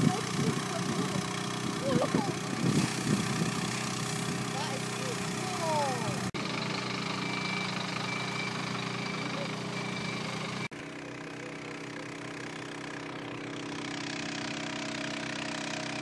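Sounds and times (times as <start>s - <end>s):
steady mechanical hum: 0.0s - 16.0s
fire truck engine idling: 0.1s - 14.3s.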